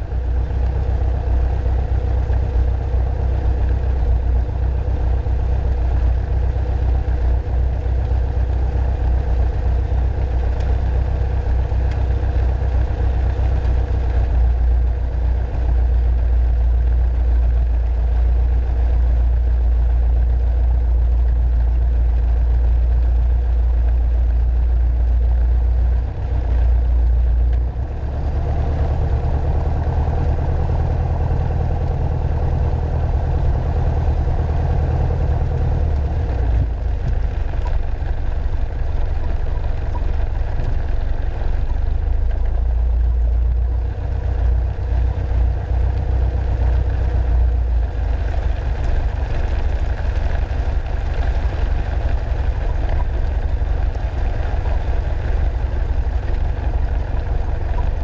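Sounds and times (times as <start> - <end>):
airplane engine rumbling: 0.0 - 58.0.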